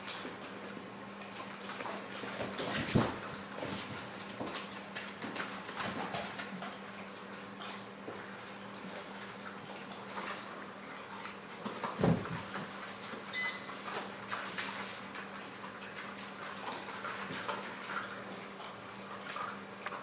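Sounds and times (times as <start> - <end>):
puppy paws clicking and scuffling: 0.0 - 20.0.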